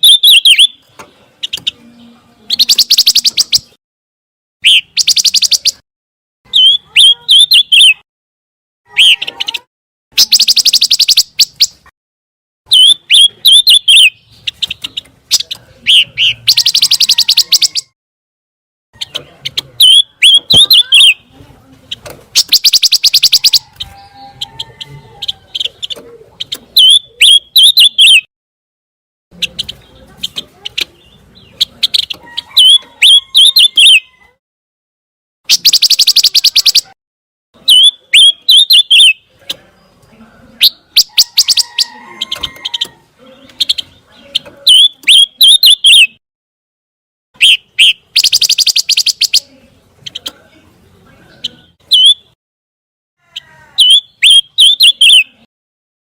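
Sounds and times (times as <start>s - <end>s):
bird chirping and trilling: 0.0s - 3.8s, 4.6s - 5.8s, 6.5s - 8.0s, 8.9s - 11.9s, 12.7s - 18.0s, 19.0s - 28.3s, 29.3s - 34.3s, 35.5s - 37.0s, 37.6s - 46.2s, 47.4s - 50.6s, 51.2s - 52.4s, 53.3s - 55.5s.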